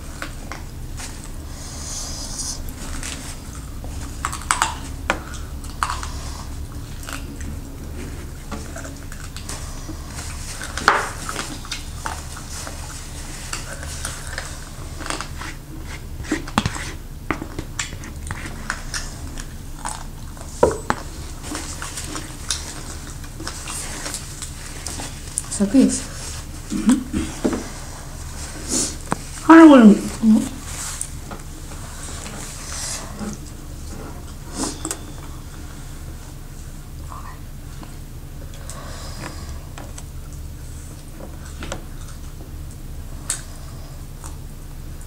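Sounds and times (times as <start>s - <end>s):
chewing: 0.0s - 29.4s, 30.6s - 45.0s
steady low hum: 0.0s - 45.0s.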